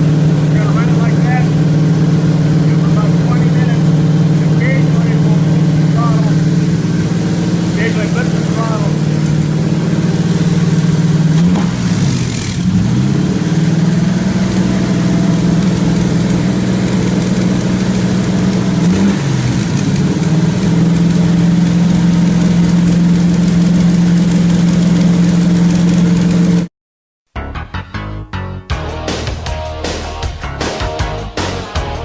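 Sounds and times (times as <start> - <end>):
car engine running fast: 0.0 - 26.7.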